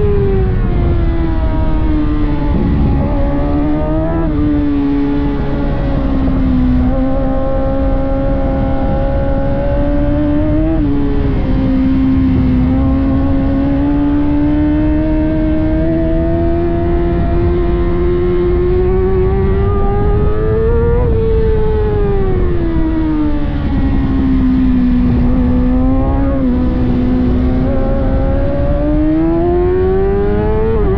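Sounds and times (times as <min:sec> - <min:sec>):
motorcycle engine at high revs: 0:00.0 - 0:30.9.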